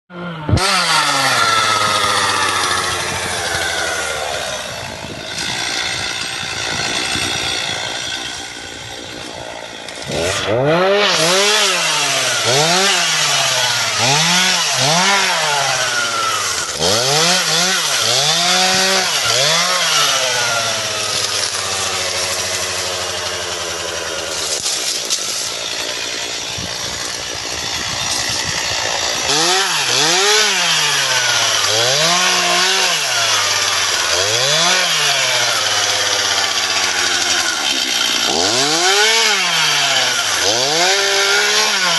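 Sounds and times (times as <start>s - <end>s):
chainsaw engine revving: 0.1s - 41.9s.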